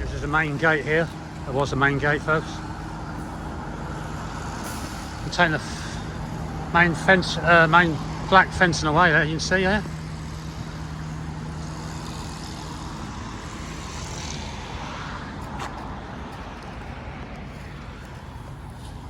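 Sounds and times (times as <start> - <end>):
low engine hum: 0.0 - 19.0
traffic noise: 0.0 - 19.0.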